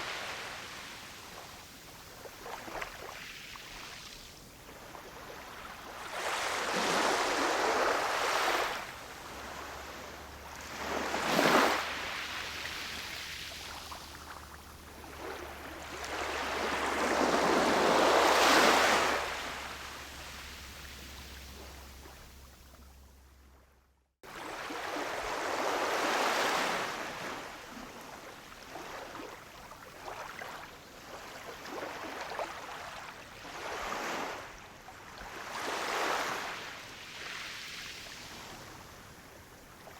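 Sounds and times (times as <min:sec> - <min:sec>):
ocean waves breaking on shore: 0:00.0 - 0:23.0, 0:24.3 - 0:39.9.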